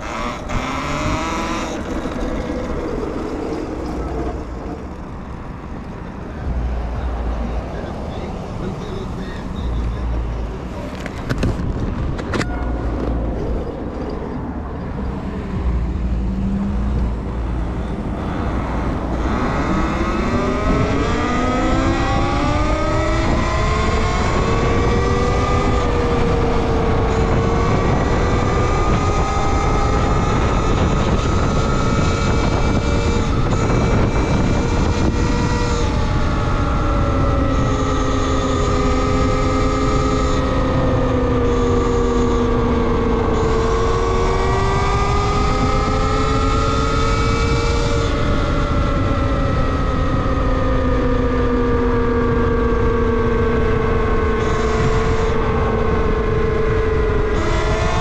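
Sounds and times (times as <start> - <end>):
low rumbling: 0.0 - 58.0.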